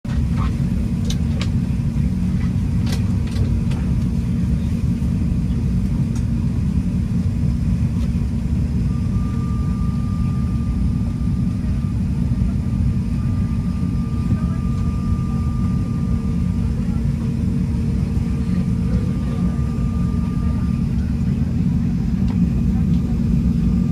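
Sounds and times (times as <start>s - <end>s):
airliner cabin rumbling drone: 0.1s - 23.9s.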